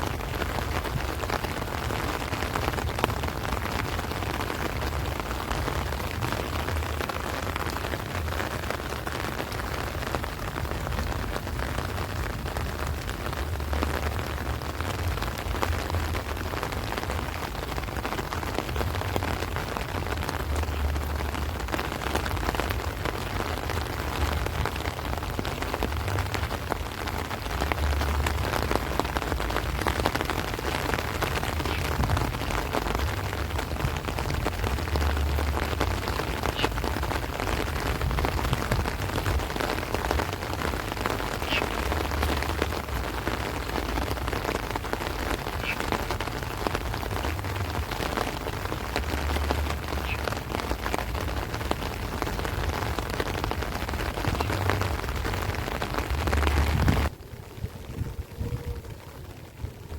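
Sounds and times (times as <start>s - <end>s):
heavy rain on plants: 0.0s - 59.9s
wind rumbling on microphone: 0.0s - 59.9s.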